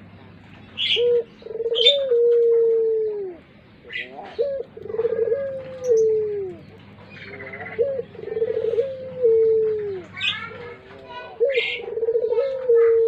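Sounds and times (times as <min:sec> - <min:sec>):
dove cooing: 0:00.8 - 0:13.0.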